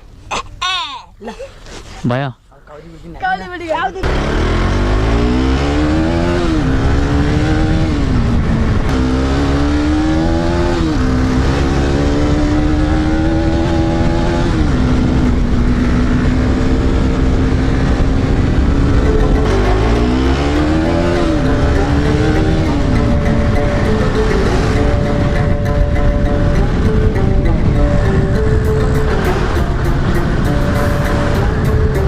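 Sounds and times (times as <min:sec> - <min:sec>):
motorcycle engine accelerating: 0:04.0 - 0:32.0.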